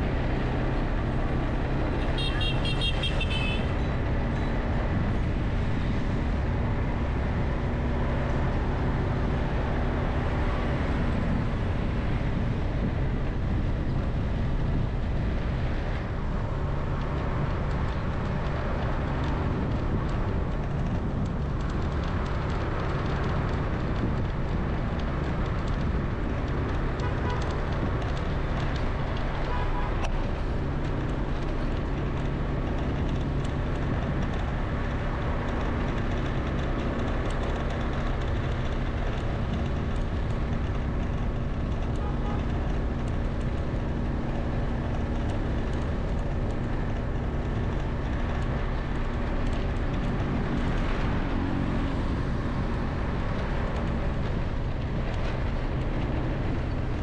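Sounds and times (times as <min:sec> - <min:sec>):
low engine hum: 0:00.0 - 0:57.0
vehicle road noise: 0:00.0 - 0:57.0.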